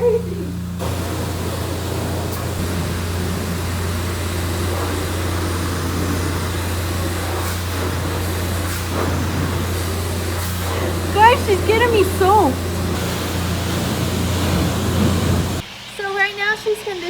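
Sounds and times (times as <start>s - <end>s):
constant low hum: 0.0s - 15.7s
pressure washer spraying water: 0.0s - 15.8s.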